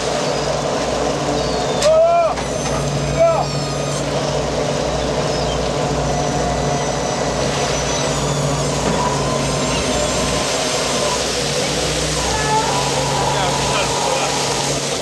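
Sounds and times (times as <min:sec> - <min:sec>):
engines and deck machinery humming: 0:00.0 - 0:15.0.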